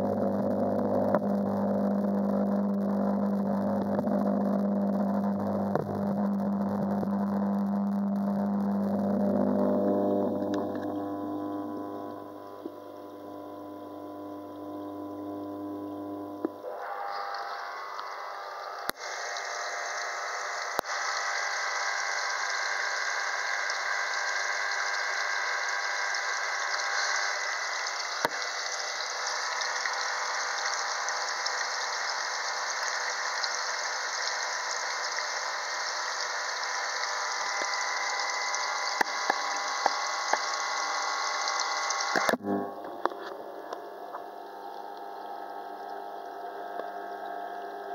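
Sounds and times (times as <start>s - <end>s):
electric hum: 0.0s - 47.9s.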